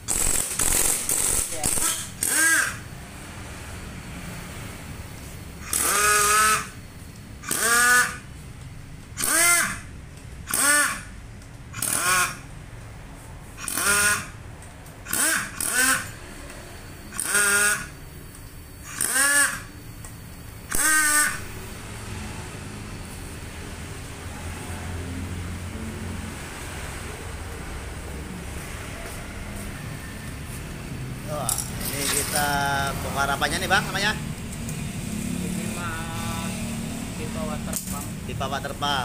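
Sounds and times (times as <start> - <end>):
air impact wrench bursts: 0.0 - 12.7, 13.4 - 27.3, 28.5 - 39.0.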